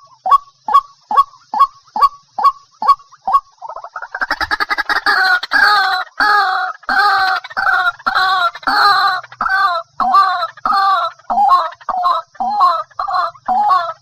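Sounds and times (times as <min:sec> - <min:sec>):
bird harsh croaking calls: 0:00.0 - 0:14.0.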